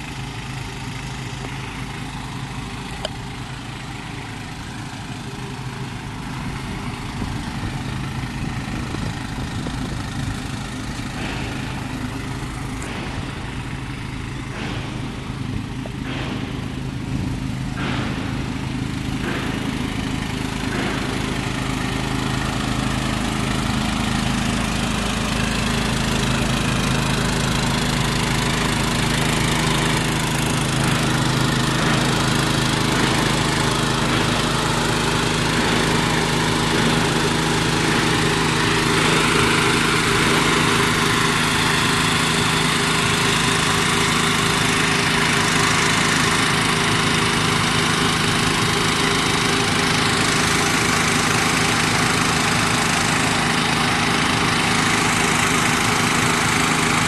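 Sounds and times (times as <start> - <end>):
engine running steadily: 0.0 - 57.0
fan hissing water mist: 1.5 - 57.0.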